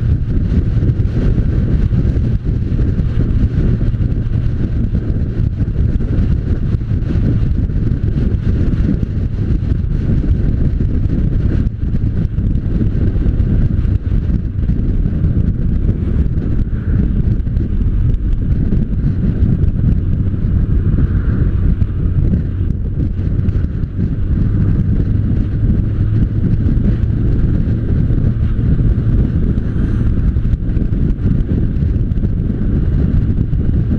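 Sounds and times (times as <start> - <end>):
motorcycle engine running: 0.0 - 33.9
wind buffeting microphone: 0.0 - 33.9.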